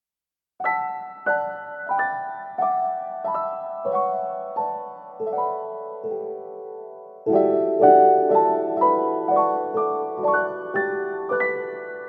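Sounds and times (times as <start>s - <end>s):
slow piano melody: 0.6s - 12.0s.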